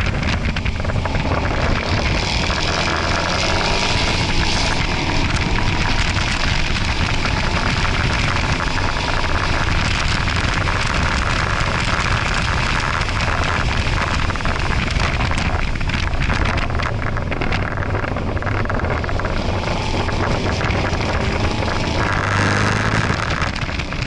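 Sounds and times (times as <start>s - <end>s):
car engine at speed: 0.0s - 24.0s
wind and road noise: 0.0s - 24.0s.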